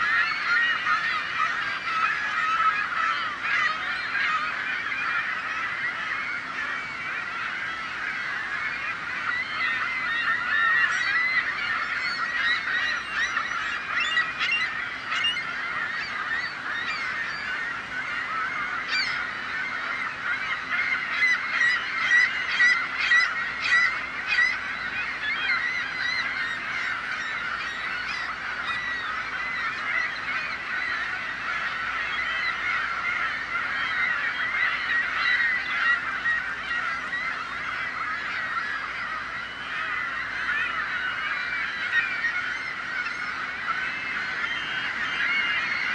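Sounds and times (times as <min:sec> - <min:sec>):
gulls calling: 0:00.0 - 0:45.9.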